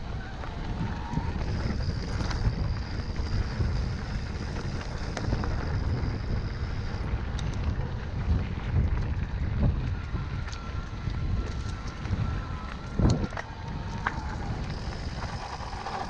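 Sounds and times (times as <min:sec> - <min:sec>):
bike clicks and rattles: 0:00.0 - 0:16.0
faint high whine: 0:00.0 - 0:16.0
wind buffeting microphone: 0:00.0 - 0:16.0.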